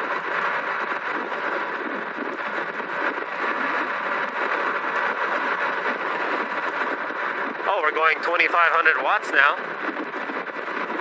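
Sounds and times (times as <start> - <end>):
bike tyre road noise: 0.0 - 11.0
wind on microphone: 0.0 - 11.0.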